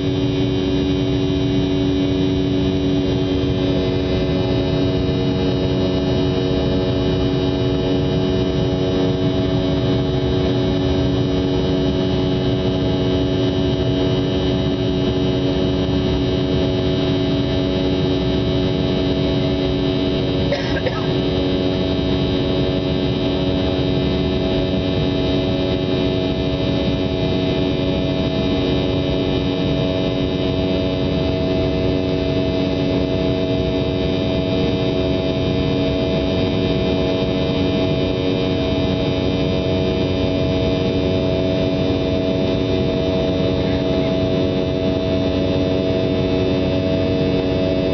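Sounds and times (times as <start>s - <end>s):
aircraft engine drone: 0.0s - 47.9s.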